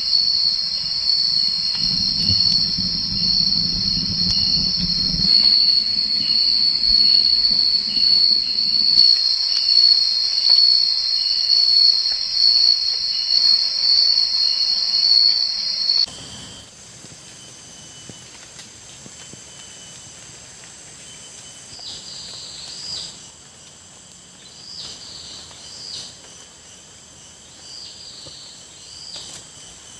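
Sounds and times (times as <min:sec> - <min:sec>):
insect chorus drone: 0:00.0 - 0:29.9.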